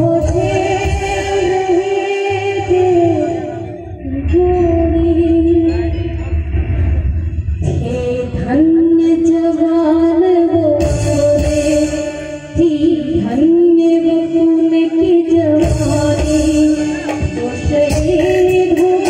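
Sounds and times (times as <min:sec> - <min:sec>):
woman singing into microphone: 0:00.0 - 0:06.8, 0:07.6 - 0:19.0
musical backing: 0:00.0 - 0:19.0.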